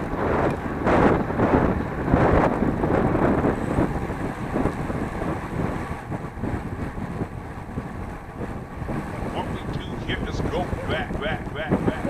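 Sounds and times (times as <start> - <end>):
wind buffeting the microphone: 0.0 - 12.0.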